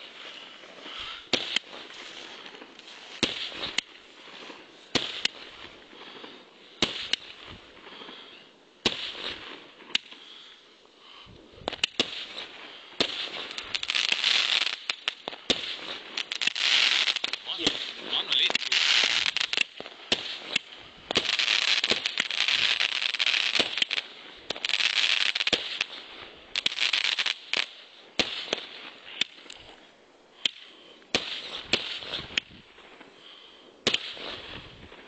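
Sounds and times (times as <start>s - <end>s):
fireworks banging: 0.0s - 8.2s, 8.8s - 10.3s, 11.6s - 29.8s, 30.4s - 33.1s, 33.8s - 35.0s
fireworks crackling: 0.0s - 35.0s.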